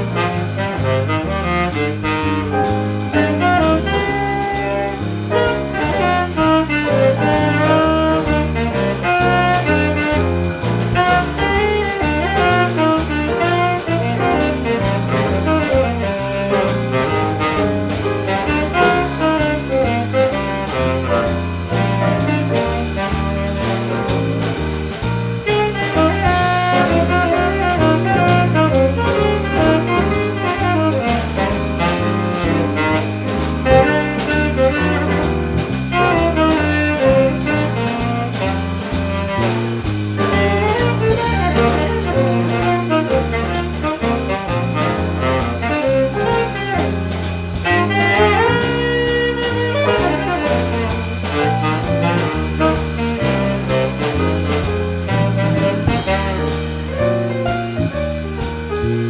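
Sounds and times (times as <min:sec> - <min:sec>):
jazz band melody: 0:00.0 - 0:59.0
steady cymbal beat: 0:00.0 - 0:59.0
walking bass line: 0:00.0 - 0:59.0.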